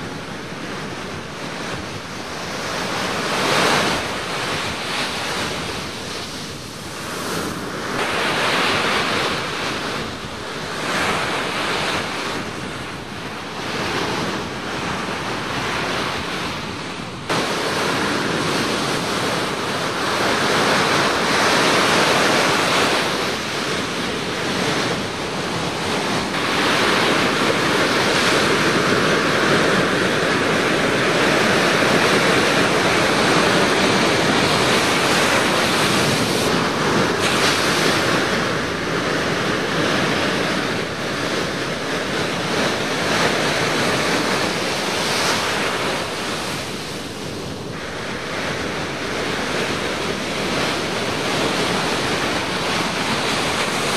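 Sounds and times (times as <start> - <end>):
ocean surf breaking: 0.0 - 53.9
wind on microphone: 0.0 - 53.9.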